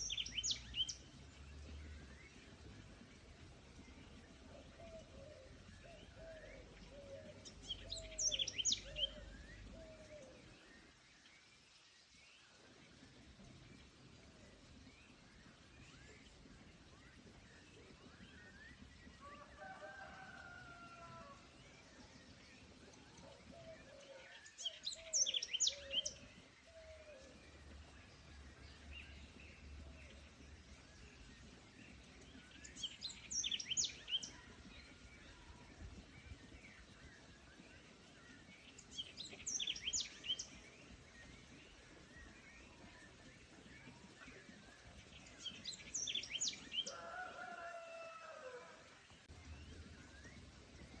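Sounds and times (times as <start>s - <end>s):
faint forest background: 0.0s - 51.0s
songbird chirping phrase: 0.0s - 51.0s.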